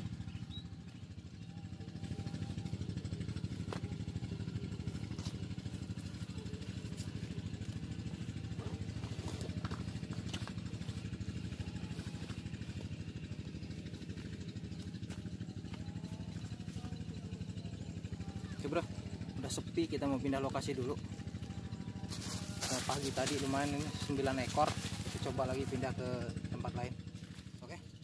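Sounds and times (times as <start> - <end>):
small engine droning: 0.0 - 28.0.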